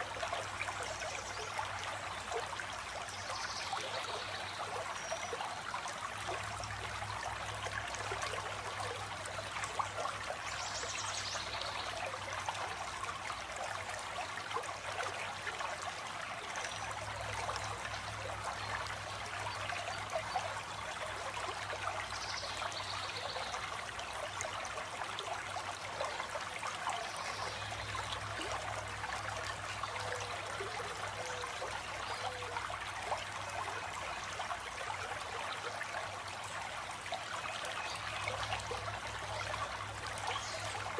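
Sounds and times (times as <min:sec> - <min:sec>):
stream of water trickling: 0:00.0 - 0:40.9.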